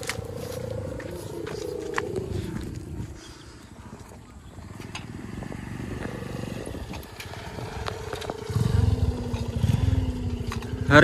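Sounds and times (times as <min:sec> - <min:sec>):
kite hummer buzzing drone: 0:00.0 - 0:11.0
motorcycle engine rumble: 0:00.0 - 0:11.0.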